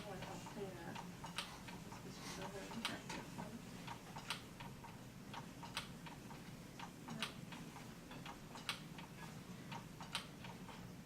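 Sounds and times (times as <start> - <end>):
baby swing mechanism clicking: 0.0 - 10.9
low steady hum: 0.0 - 11.0.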